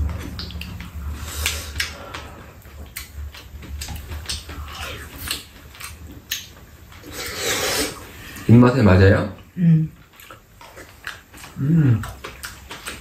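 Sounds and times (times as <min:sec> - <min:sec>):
slurping and chewing: 0:00.0 - 0:08.5, 0:09.4 - 0:13.0
steady low hum: 0:00.0 - 0:13.0.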